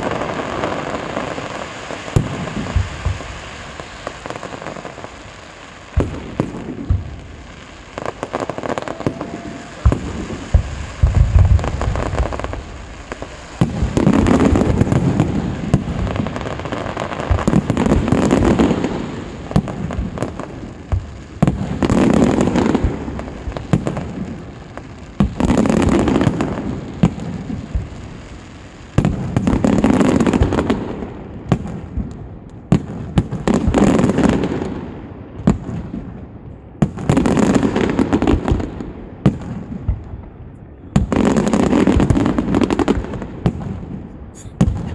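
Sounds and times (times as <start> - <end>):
fireworks bangs: 0.0 - 44.9
fireworks barrages: 0.0 - 44.9.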